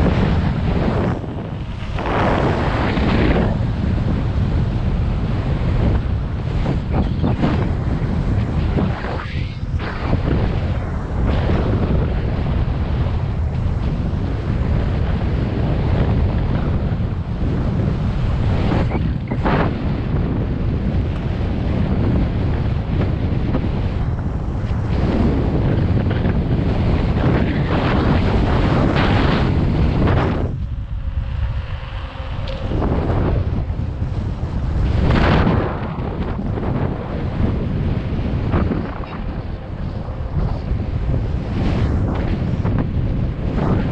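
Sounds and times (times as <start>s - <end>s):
low rumble: 0.0s - 43.9s
wind buffeting microphone: 0.0s - 43.9s.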